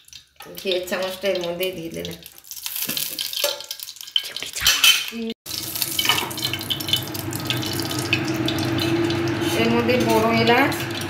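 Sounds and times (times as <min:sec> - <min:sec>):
ghee sizzling in wok: 0:00.0 - 0:11.0.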